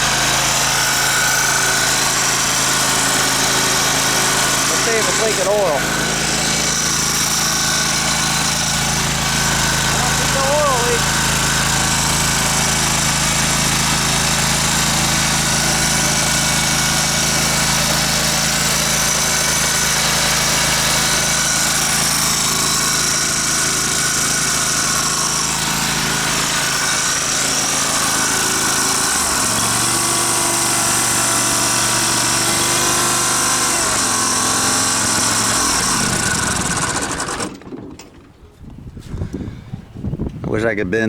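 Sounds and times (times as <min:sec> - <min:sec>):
lawn mower engine running: 0:00.0 - 0:40.0.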